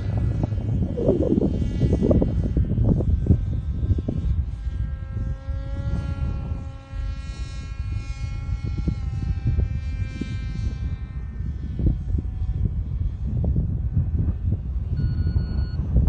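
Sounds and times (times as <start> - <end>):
model airplane motor whine: 0.0 - 16.0
wind buffeting microphone: 0.0 - 16.0.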